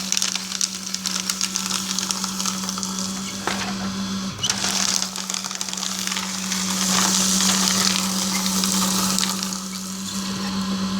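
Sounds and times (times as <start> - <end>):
paper being shredded crackling: 0.0 - 10.9
paper shredder motor hum: 0.0 - 10.9.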